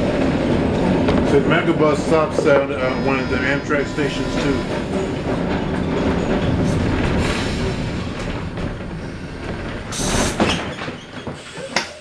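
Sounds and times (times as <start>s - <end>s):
streetcar wheels rumbling: 0.0s - 12.0s.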